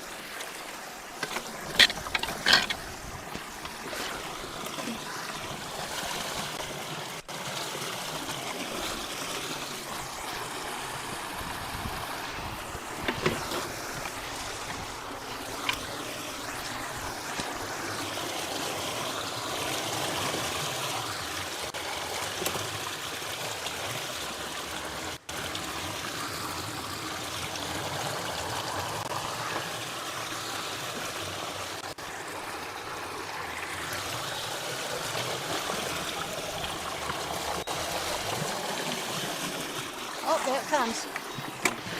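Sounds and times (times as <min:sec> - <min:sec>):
water trickling around culvert: 0:00.0 - 0:41.9.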